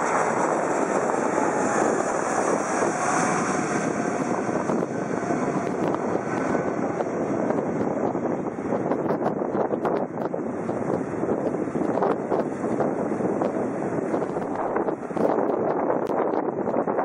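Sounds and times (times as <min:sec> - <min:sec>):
jet engines roaring overhead: 0:00.0 - 0:17.0.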